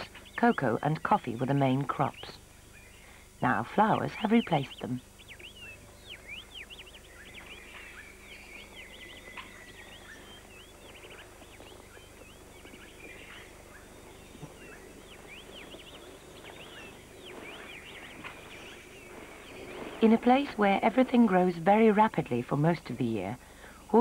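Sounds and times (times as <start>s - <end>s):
birds chirping and twittering: 0.0s - 24.0s.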